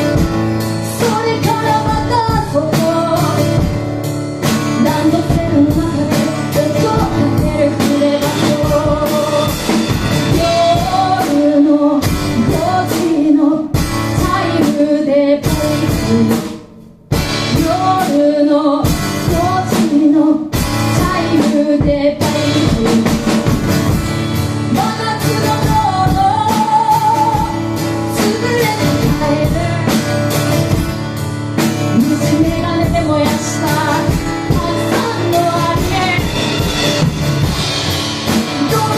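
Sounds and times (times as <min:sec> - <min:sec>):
drum kit: 0:00.0 - 0:38.9
guitar: 0:00.0 - 0:38.9
woman singing: 0:00.8 - 0:03.8, 0:04.4 - 0:16.7, 0:17.4 - 0:23.8, 0:24.6 - 0:30.9, 0:31.6 - 0:37.0, 0:38.3 - 0:38.9.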